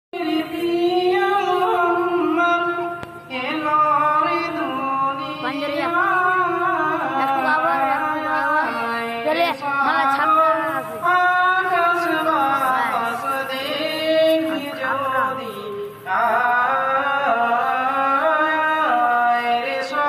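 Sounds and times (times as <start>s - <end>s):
man singing over pa system: 0.1s - 20.0s.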